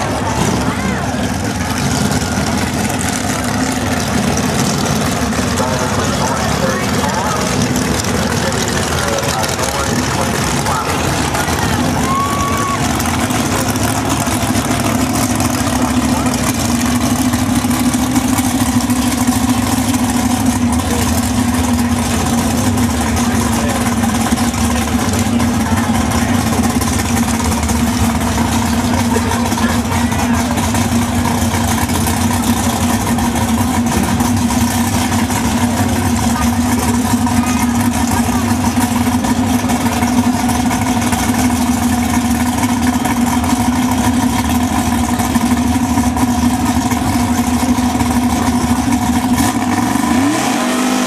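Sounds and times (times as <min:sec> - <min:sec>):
car engines idling loudly: 0:00.0 - 0:51.0.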